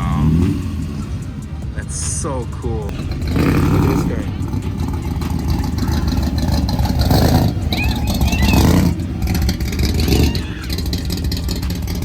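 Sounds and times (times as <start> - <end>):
car engine rumbling: 0.0 - 12.0
high chirps: 0.0 - 12.0.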